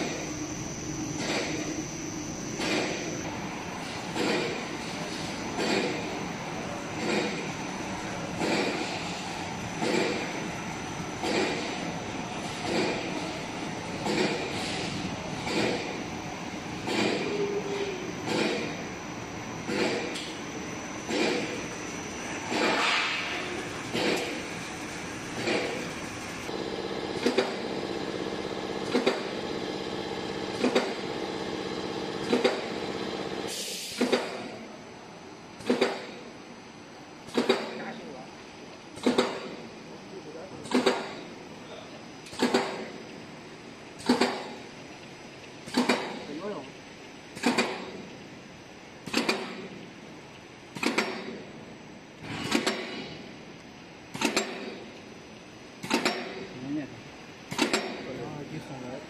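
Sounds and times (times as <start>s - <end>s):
machinery humming: 0.0s - 59.0s.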